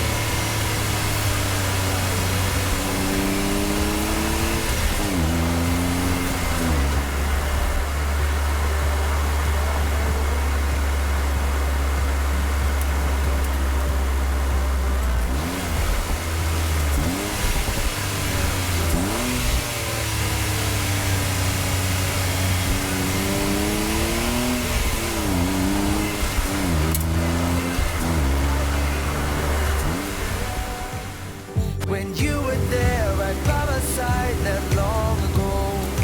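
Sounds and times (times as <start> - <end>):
car engine running: 0.0 - 36.0
engine throttle blips: 0.0 - 36.0.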